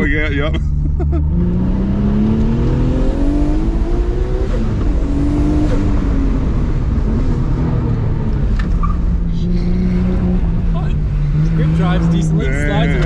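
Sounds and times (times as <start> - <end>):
turbo car engine accelerating: 0.0 - 13.0.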